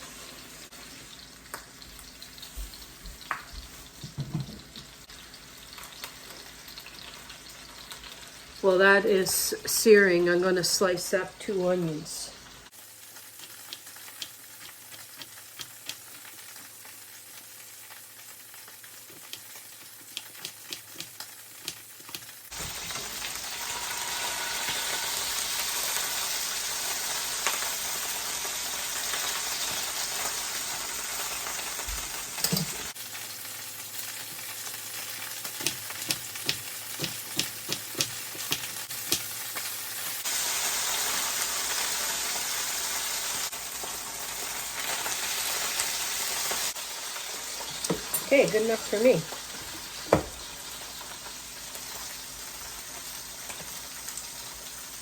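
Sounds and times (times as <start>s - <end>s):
meat sizzling in a frying pan: 0.0s - 11.1s, 11.7s - 55.0s.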